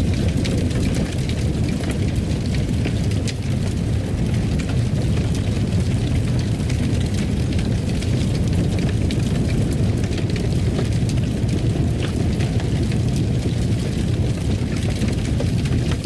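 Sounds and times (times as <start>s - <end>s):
fireplace fire rumbling: 0.0s - 16.0s.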